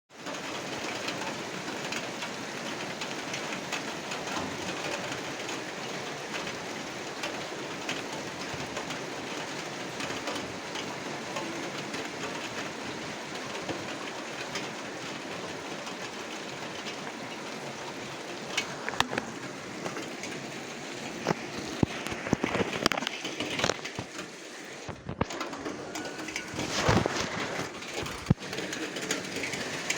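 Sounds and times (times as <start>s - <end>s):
steady rain: 0.1s - 29.9s.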